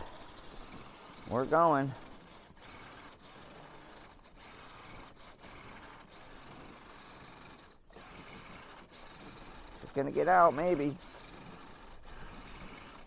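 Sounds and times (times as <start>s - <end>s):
toy car electric motor running: 0.0s - 13.0s.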